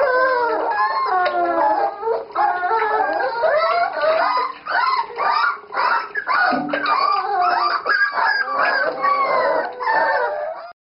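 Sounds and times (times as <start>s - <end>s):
puppies howling and whimpering: 0.0s - 10.8s.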